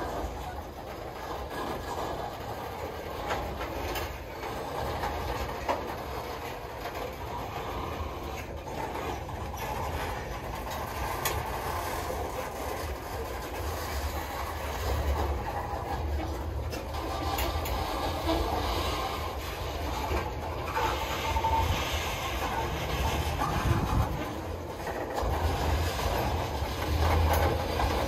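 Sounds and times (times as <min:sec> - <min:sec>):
sharp clicks and knocks of wheels: 0:00.0 - 0:28.0
steel wheels rumbling on rail: 0:00.0 - 0:28.0.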